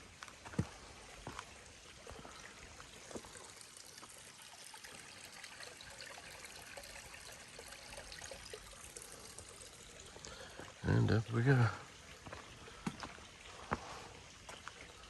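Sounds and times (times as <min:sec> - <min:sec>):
creek trickling: 0:00.0 - 0:15.0.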